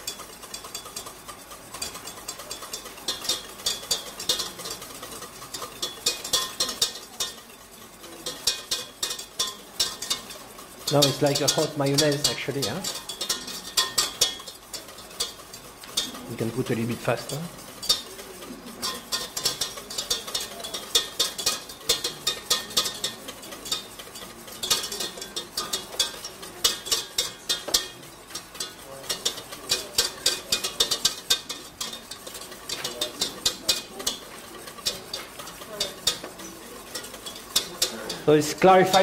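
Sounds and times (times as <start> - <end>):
whisk clicking and scraping pan: 0.0 - 39.0.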